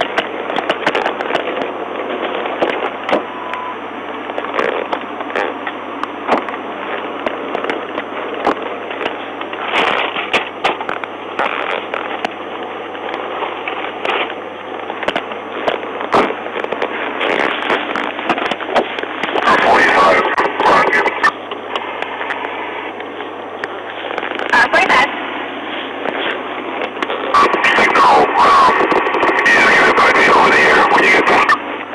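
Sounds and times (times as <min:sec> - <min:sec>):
crackling static: 0:00.0 - 0:31.9
low hum: 0:00.0 - 0:31.9.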